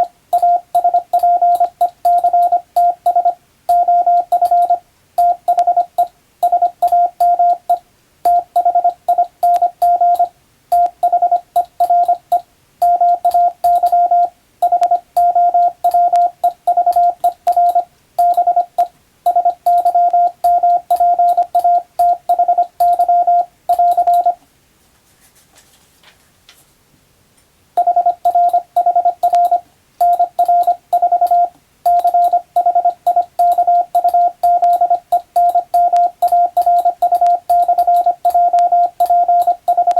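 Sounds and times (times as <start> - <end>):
morse code beeps: 0.0 - 24.4, 27.8 - 39.9.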